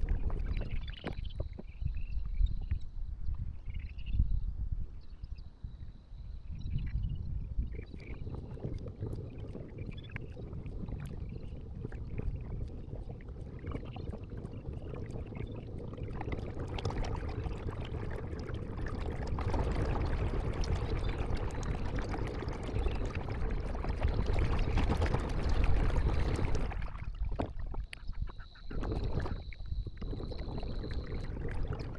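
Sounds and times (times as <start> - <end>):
water splashing and gurgling: 0.0 - 1.9, 7.6 - 31.9.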